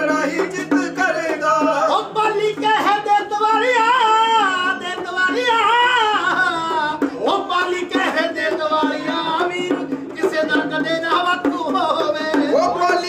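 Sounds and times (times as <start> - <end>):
man singing folk song: 0.0 - 13.0.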